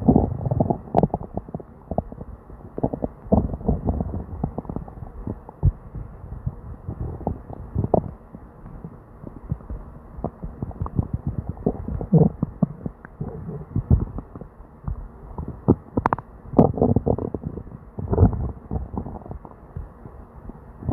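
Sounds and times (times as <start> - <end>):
stomach gurgling and rumbling: 0.0 - 20.9.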